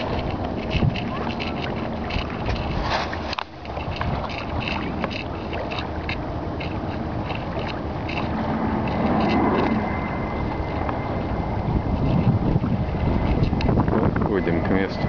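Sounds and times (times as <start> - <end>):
steady low drone: 0.0 - 15.0
water slapping against hull: 0.0 - 15.0
wind on microphone: 0.0 - 15.0.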